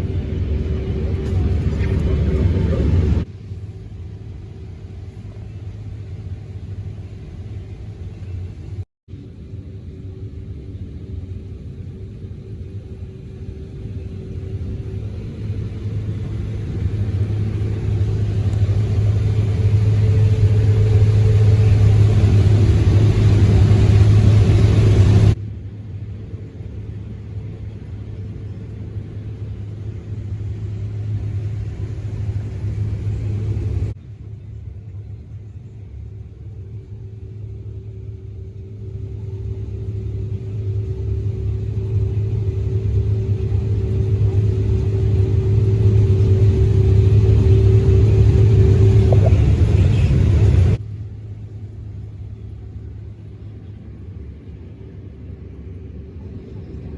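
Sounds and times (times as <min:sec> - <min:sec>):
farm machinery engine droning: 0:00.0 - 0:56.9.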